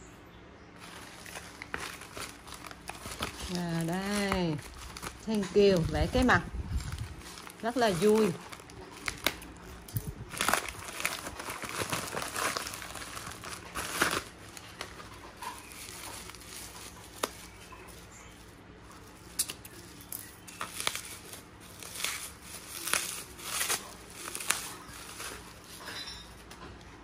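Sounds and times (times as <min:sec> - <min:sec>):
bubble wrap crinkling: 0:00.8 - 0:27.0.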